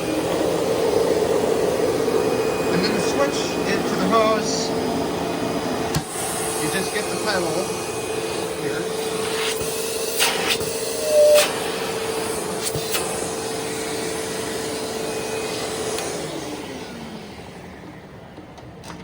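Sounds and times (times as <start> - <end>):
vacuum cleaner motor running: 0.0 - 19.0.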